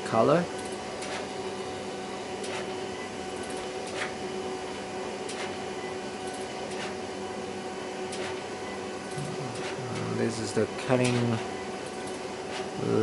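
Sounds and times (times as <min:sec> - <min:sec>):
printer mechanical hum: 0:00.0 - 0:13.0.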